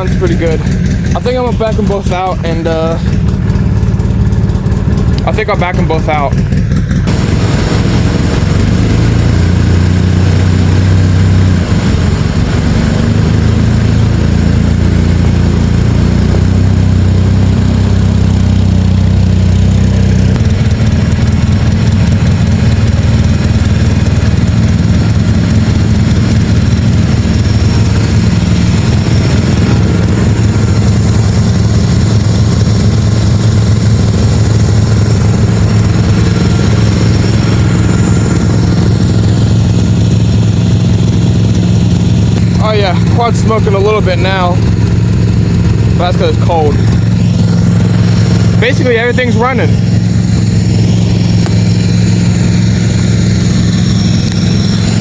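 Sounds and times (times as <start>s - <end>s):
small engines humming: 0.0s - 55.0s.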